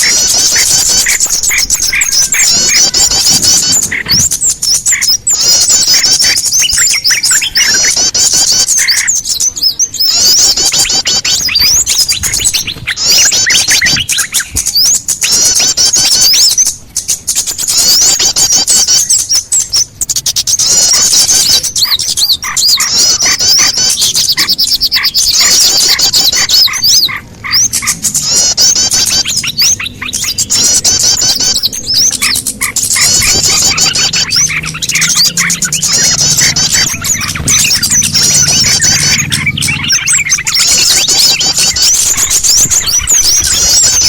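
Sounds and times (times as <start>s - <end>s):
small birds chirping and trilling: 0.0s - 44.0s.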